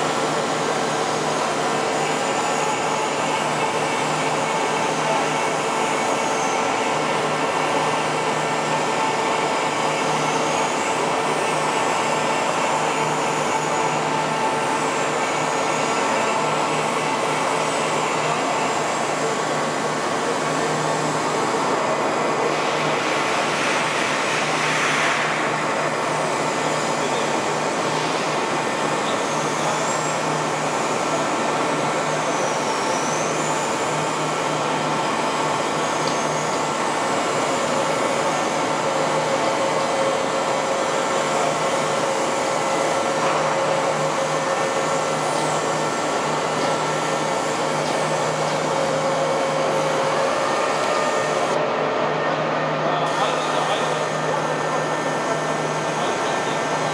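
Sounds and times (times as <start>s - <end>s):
machinery whirring drone: 0.0s - 56.9s.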